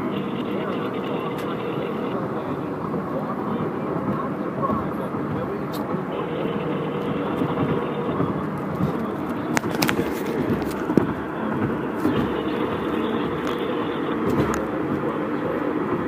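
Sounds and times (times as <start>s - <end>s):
vehicle running: 0.0s - 16.0s.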